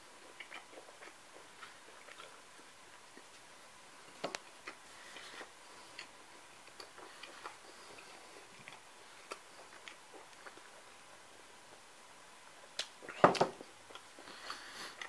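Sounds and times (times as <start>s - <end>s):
chewing bread: 0.0s - 15.0s.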